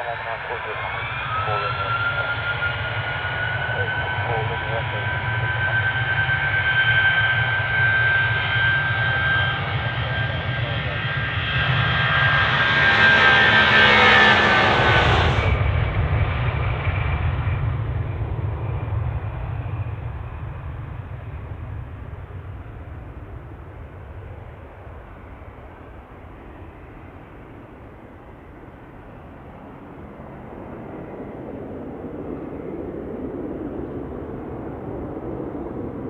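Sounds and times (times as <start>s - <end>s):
jet engines with high whine: 0.0s - 36.0s.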